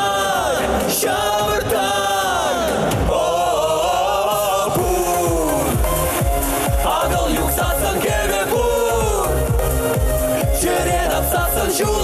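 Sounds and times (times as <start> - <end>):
men singing pop song: 0.0 - 12.0
backing track with drum beat: 2.2 - 12.0.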